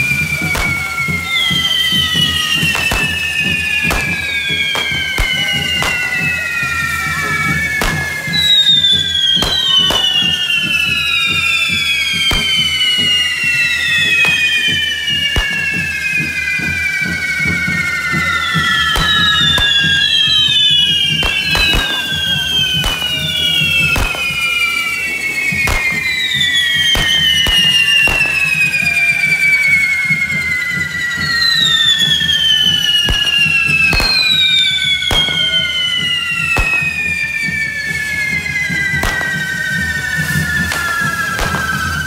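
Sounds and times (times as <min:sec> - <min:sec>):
sharp firework bangs: 0:00.0 - 0:16.4, 0:17.0 - 0:29.2, 0:32.0 - 0:37.3, 0:38.9 - 0:42.0
fireworks whistling falling in pitch: 0:00.0 - 0:42.0.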